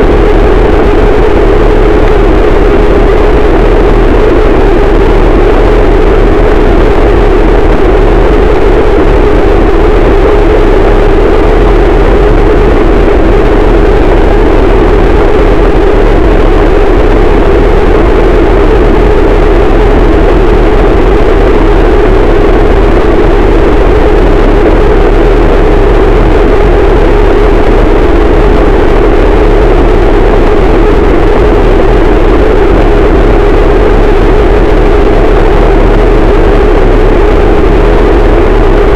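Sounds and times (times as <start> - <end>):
harsh distorted noise wall: 0.0 - 38.9.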